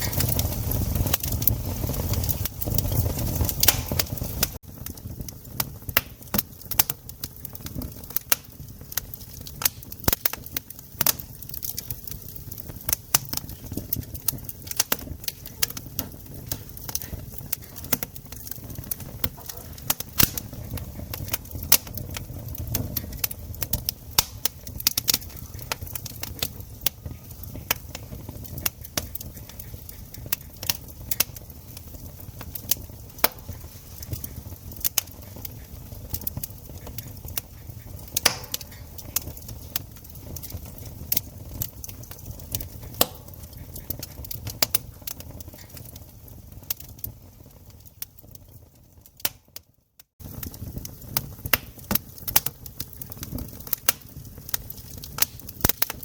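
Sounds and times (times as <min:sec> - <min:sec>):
campfire pops and snaps: 0:00.0 - 0:56.0
low rumble of flames: 0:00.0 - 0:56.0.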